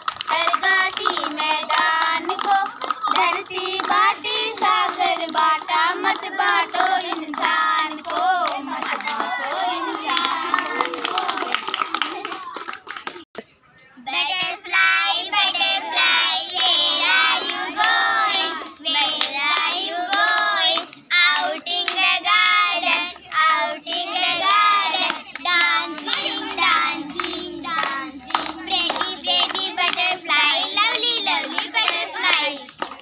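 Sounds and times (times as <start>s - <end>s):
hands clapping: 0.0s - 13.3s, 17.4s - 33.0s
children singing: 0.3s - 12.2s, 14.1s - 32.7s.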